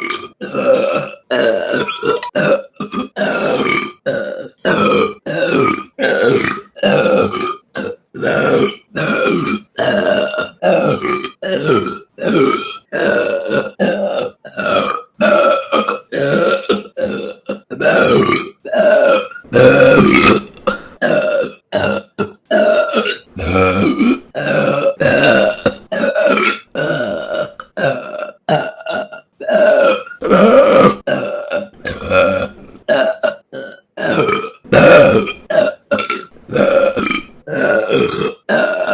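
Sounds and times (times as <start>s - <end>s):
woman burping: 0.0s - 38.9s.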